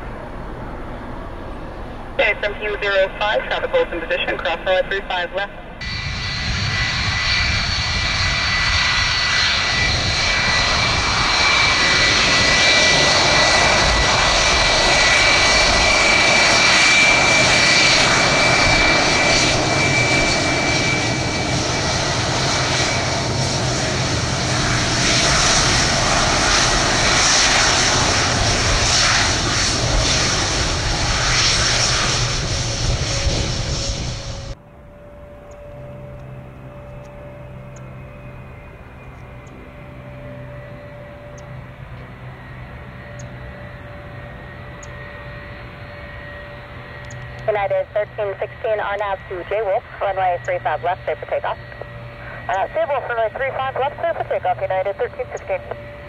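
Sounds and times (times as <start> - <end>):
high engine whine: 0.0 - 56.0
jet engines roaring: 0.0 - 56.0.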